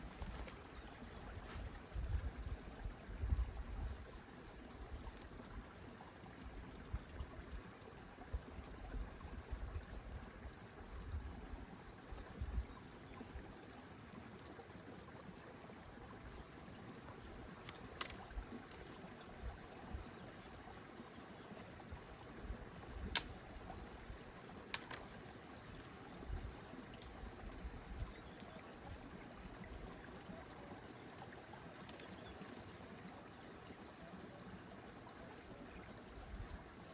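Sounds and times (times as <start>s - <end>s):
mountain stream running: 0.0s - 36.9s.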